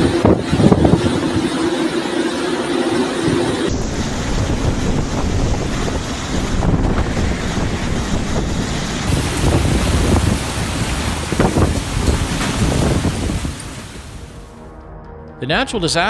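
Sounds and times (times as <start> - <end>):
wind buffeting microphone: 0.0 - 1.7, 3.2 - 14.5
rough sea surf: 0.0 - 14.5.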